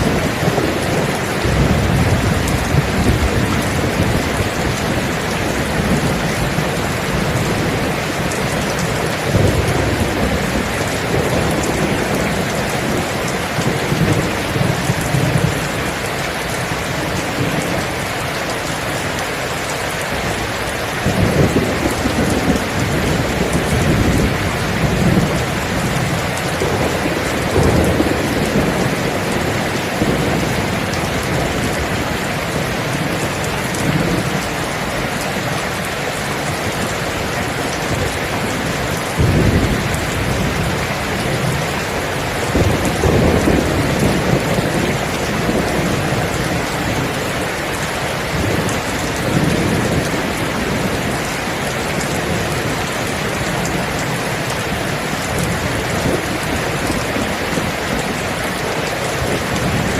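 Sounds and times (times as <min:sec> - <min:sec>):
heavy rain falling: 0:00.0 - 0:59.9
thunder rumbling: 0:00.0 - 0:59.9.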